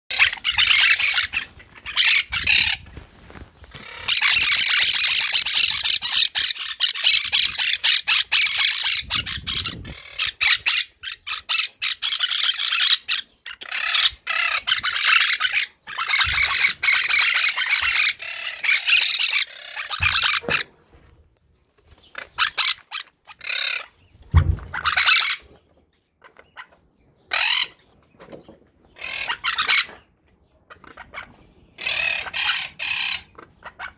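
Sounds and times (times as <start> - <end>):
parakeets squawking and chattering: 0.1 - 20.8, 21.9 - 25.6, 26.2 - 27.8, 28.9 - 30.1, 30.7 - 33.9.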